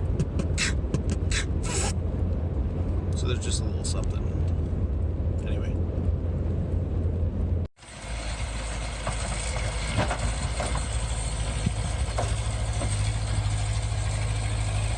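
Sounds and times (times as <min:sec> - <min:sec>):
vehicle engine droning: 0:00.0 - 0:14.9.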